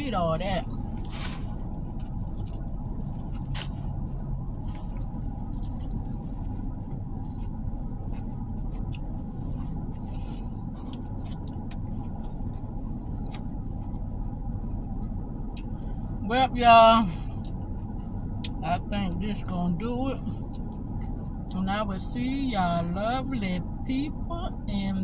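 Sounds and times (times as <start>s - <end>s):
car interior hum: 0.0s - 25.0s.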